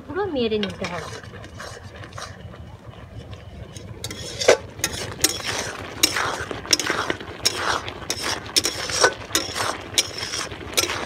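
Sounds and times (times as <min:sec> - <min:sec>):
metal spatula scraping iron pan: 0:00.6 - 0:02.5, 0:03.7 - 0:11.0.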